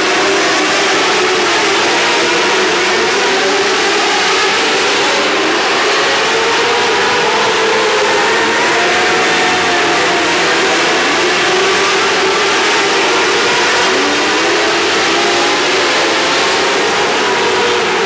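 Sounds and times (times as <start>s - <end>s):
racing car engines revving: 0.0s - 18.0s.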